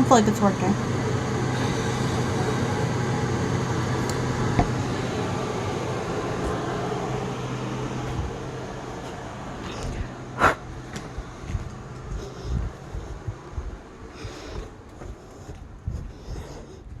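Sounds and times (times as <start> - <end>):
appliance or fan humming: 0.0 - 17.0.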